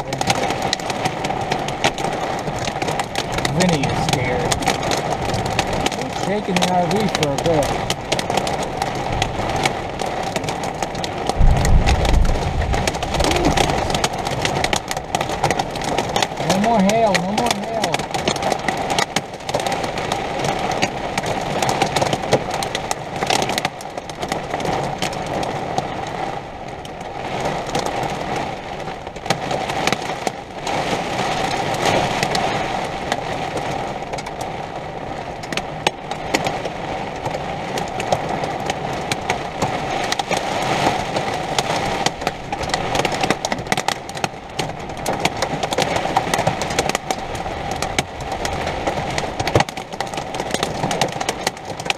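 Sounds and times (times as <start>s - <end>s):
rain and hail on a roof: 0.0s - 51.9s.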